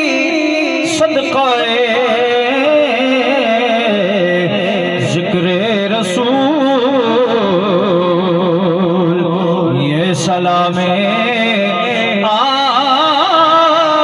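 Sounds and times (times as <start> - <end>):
person singing over loudspeaker: 0.0 - 14.0.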